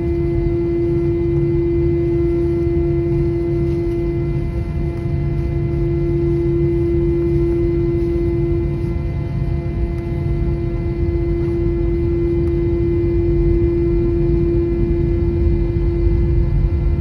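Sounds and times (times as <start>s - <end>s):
airplane cabin engine hum: 0.0s - 17.0s
low rumble: 0.0s - 17.0s.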